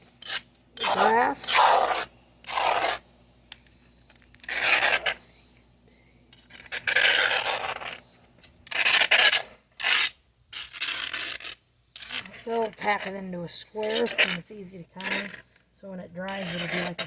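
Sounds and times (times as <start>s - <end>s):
scraper rasping on mower deck: 0.0s - 3.0s, 3.6s - 5.4s, 6.4s - 15.5s, 16.2s - 17.0s.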